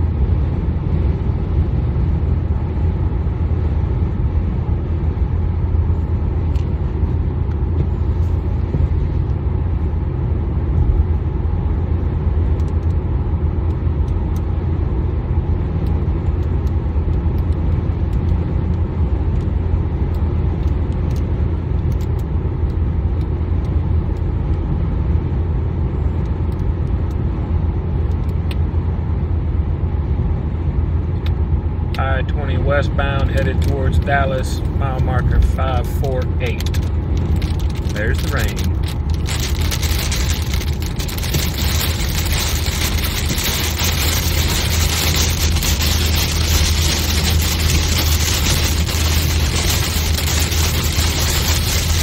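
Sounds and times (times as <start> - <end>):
car road rumble inside cabin: 0.0 - 52.0.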